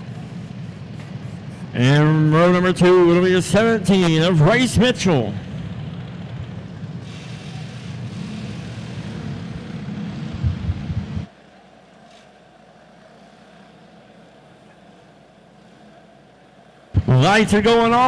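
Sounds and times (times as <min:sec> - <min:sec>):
kart engines running: 0:00.0 - 0:18.0.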